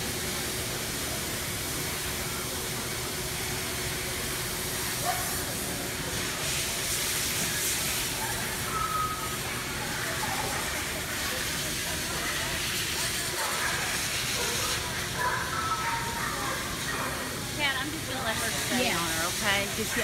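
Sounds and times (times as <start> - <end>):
faint constant hum: 0.0 - 20.0
faint distant voices: 2.2 - 20.0.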